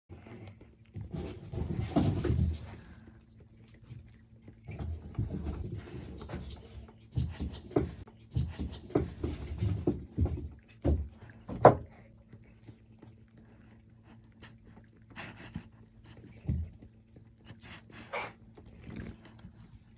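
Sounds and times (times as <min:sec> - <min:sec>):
cat lapping water: 0:00.1 - 0:19.9.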